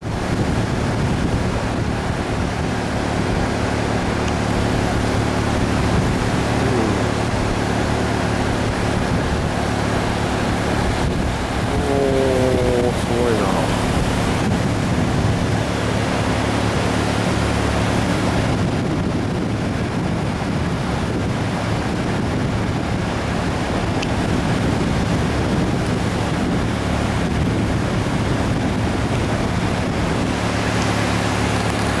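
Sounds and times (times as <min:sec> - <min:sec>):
river rushing: 0:00.0 - 0:32.0.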